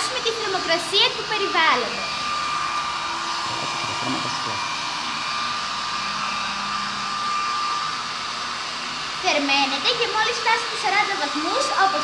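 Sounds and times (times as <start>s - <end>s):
hair dryer blowing air: 0.0s - 12.0s
thin steady whine: 0.0s - 12.0s.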